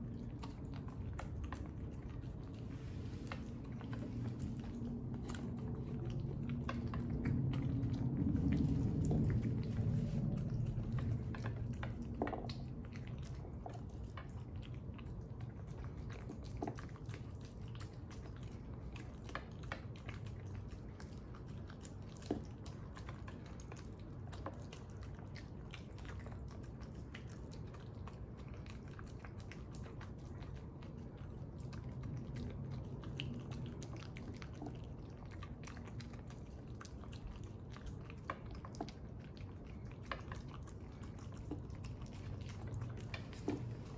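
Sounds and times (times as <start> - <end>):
dog chewing vegetables: 0.0 - 43.9
steady low hum: 0.0 - 43.9.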